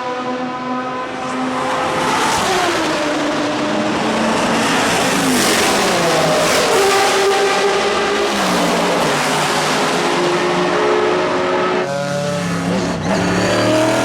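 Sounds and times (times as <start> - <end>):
racing engine at high revs: 0.0 - 14.0.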